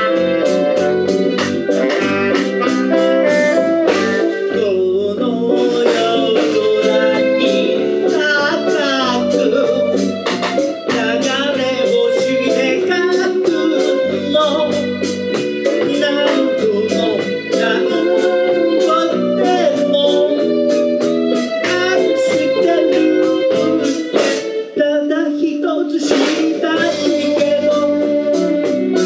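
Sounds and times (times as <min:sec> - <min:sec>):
electric bass: 0:00.0 - 0:25.0, 0:26.2 - 0:29.0
live band music: 0:00.0 - 0:29.0
person singing: 0:00.0 - 0:29.0.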